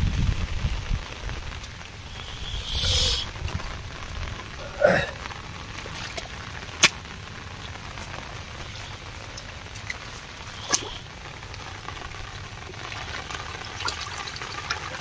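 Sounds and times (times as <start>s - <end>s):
crackly hiss: 0.0s - 15.0s
mud squelching and splashing: 1.6s - 15.0s.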